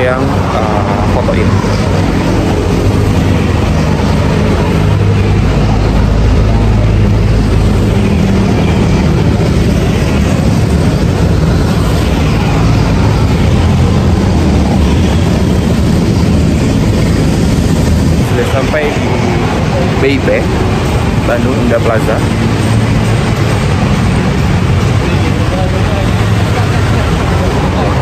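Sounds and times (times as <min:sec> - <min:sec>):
road traffic rumble: 0:00.0 - 0:28.0
vehicle engines humming: 0:00.0 - 0:28.0.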